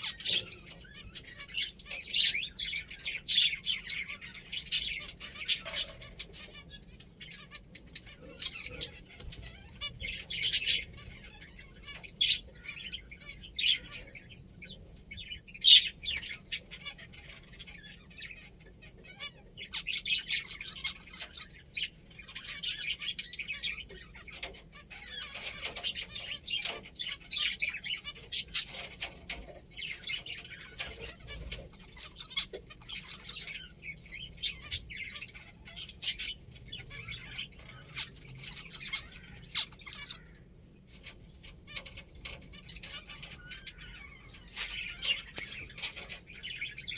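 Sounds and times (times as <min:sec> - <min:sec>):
finches chirping: 0:00.0 - 0:46.9.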